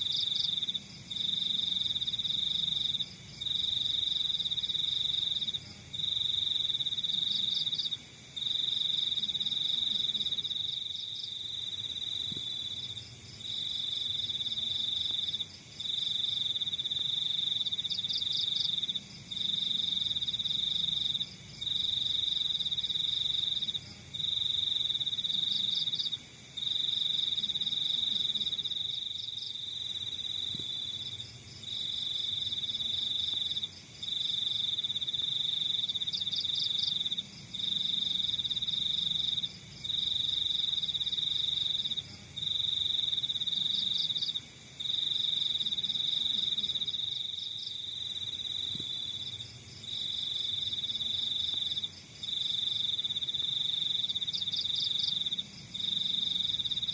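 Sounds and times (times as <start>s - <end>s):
cricket trilling: 0.0s - 56.9s
faint rapid cricket chirping: 0.0s - 56.9s.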